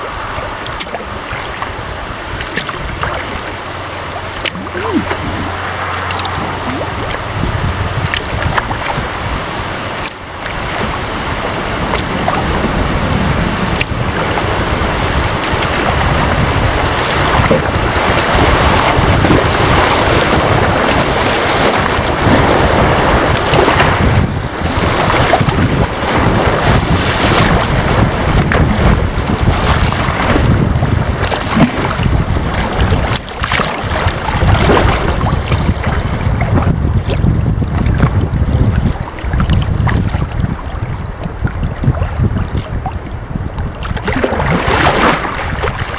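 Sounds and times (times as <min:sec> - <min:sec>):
water rushing and splashing: 0:00.0 - 0:45.9
wind buffeting microphone: 0:00.0 - 0:45.9.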